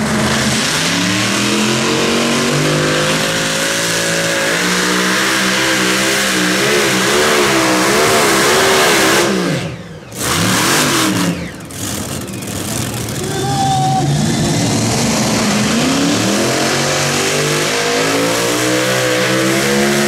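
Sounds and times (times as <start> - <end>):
tractor engine revving hard: 0.0 - 20.0.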